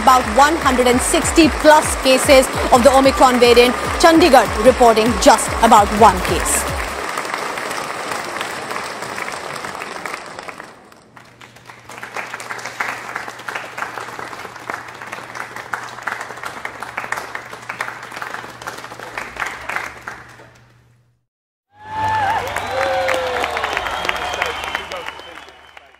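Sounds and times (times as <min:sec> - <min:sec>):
crowd applause: 0:00.0 - 0:20.8, 0:21.8 - 0:25.9.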